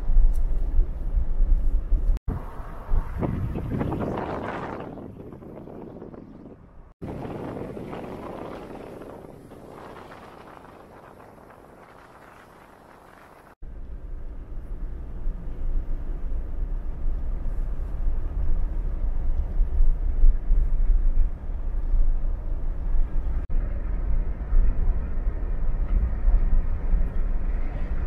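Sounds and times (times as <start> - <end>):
vehicle road and engine rumble: 0.0 - 28.0.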